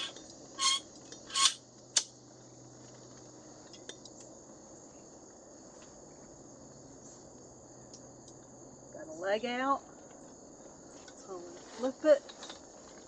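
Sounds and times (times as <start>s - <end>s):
rustle: 0.0s - 8.5s, 9.1s - 13.0s
insects trilling: 0.0s - 13.0s.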